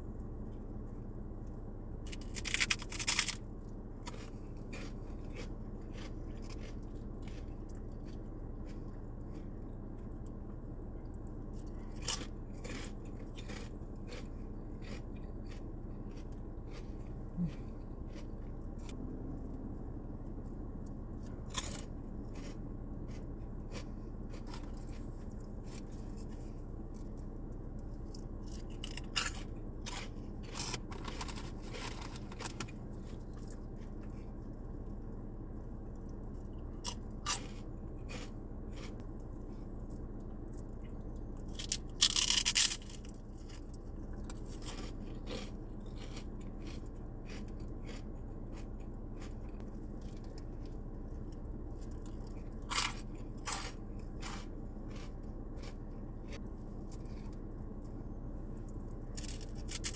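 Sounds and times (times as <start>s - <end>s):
steady low hum: 0.0s - 59.9s
crunchy snack chewing: 2.0s - 19.6s, 20.3s - 59.9s.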